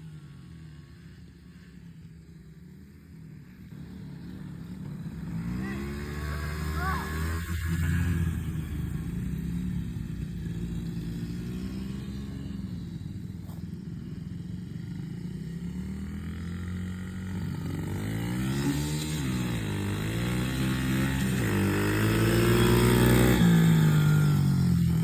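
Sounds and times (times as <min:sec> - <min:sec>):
small motorbike engine revving: 0:00.0 - 0:25.0.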